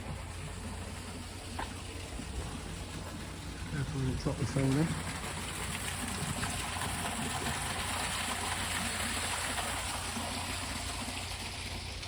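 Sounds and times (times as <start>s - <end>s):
water rushing through lock: 0.0s - 12.0s.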